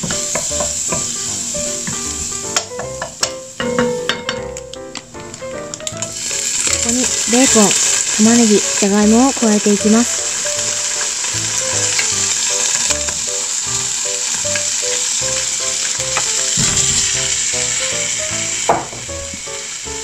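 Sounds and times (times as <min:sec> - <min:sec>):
food sizzling in a frying pan: 0:00.0 - 0:20.0
light music with plucked notes: 0:00.0 - 0:20.0.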